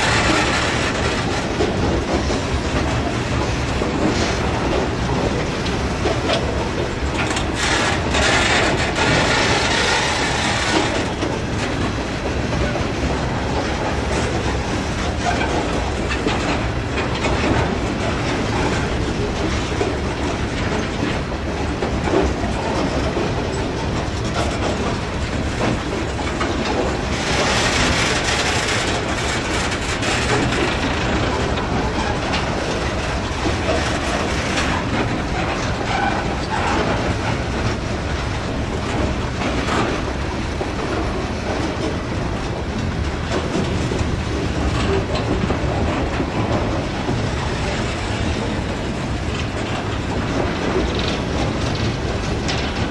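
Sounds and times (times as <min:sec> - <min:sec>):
clickety-clack over rail joints: 0:00.0 - 0:52.9
steel wheels rumbling on rail: 0:00.0 - 0:52.9.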